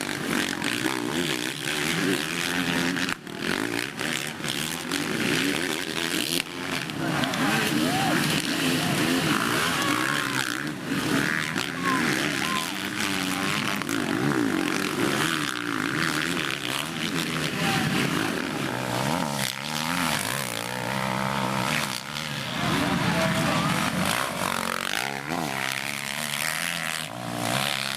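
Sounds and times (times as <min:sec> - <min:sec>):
motocross bikes revving: 0:00.0 - 0:27.9.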